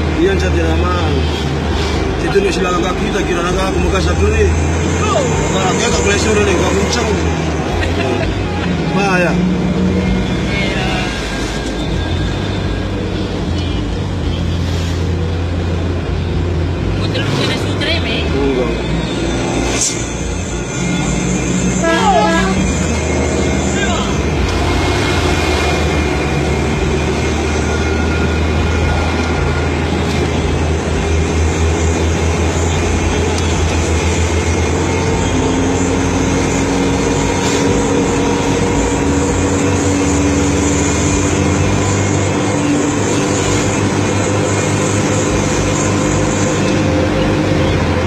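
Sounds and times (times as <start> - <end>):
bus diesel engine running: 0.0 - 48.0
road noise: 0.0 - 48.0.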